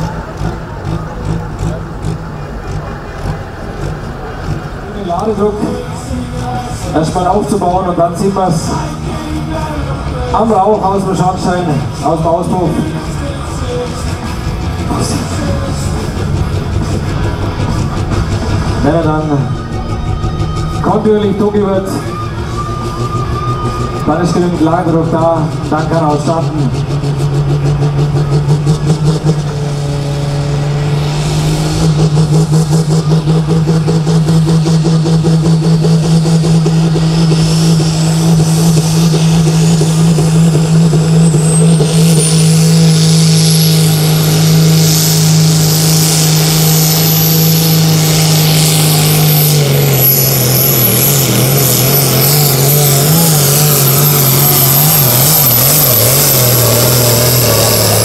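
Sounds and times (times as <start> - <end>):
diesel tractor engine revving: 0.0 - 58.0
turbo whine: 0.0 - 58.0.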